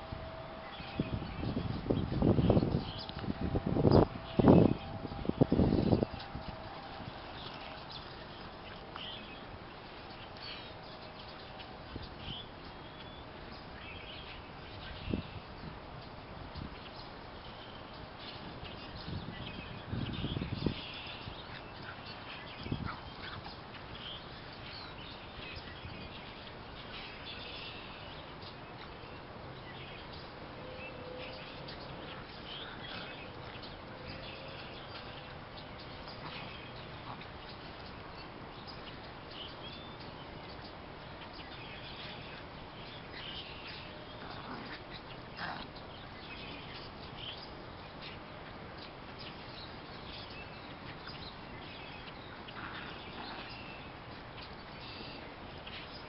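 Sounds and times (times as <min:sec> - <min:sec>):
steady outdoor background hiss: 0:00.0 - 0:56.0
wild birds chirping: 0:00.0 - 0:56.0.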